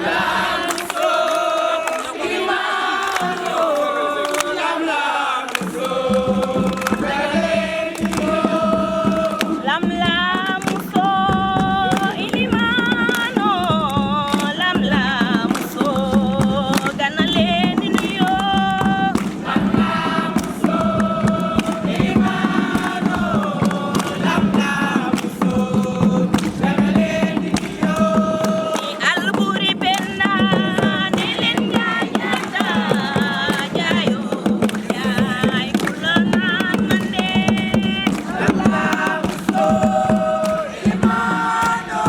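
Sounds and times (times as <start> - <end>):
group singing and chanting: 0.0 - 42.0
sharp percussive strikes: 5.5 - 42.0.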